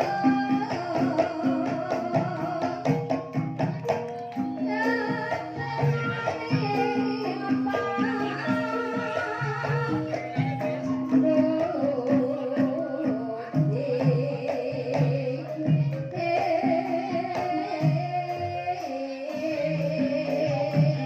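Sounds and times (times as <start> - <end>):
drum strokes: 0.0 - 21.0
gamelan struck notes: 0.0 - 21.0
person singing wavering melody: 0.0 - 21.0.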